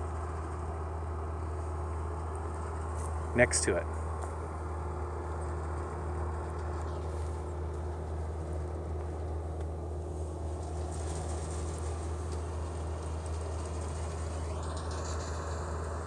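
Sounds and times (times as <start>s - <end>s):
farm machinery engine drone: 0.0s - 16.0s.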